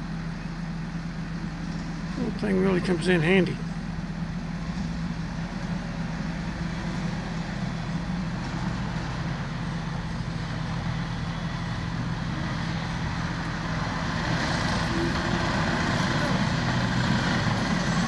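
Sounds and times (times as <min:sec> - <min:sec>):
diesel construction machinery running: 0:00.0 - 0:18.0.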